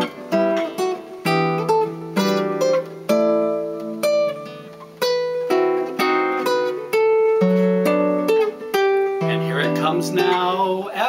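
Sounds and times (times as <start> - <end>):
jazz guitar chords: 0.0 - 11.0.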